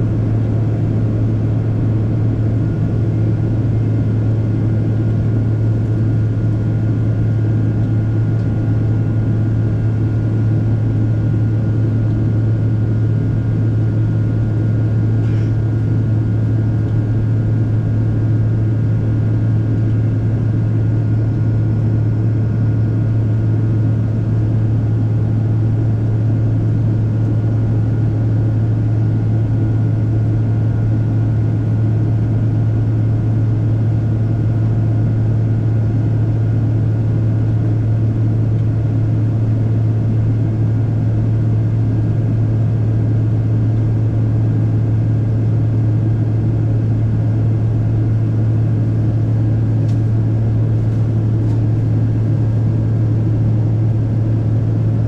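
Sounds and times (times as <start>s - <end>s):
aircraft cabin low drone: 0.0s - 55.0s.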